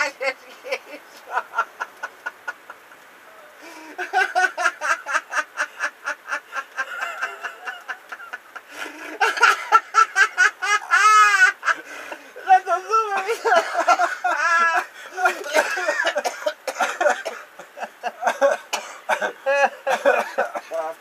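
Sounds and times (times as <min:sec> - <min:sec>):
man laughing hard: 0:03.7 - 0:20.8.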